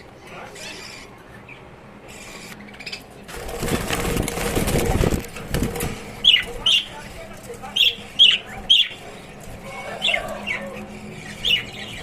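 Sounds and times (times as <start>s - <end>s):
caged birds rattling and scuffling: 0.0s - 12.0s.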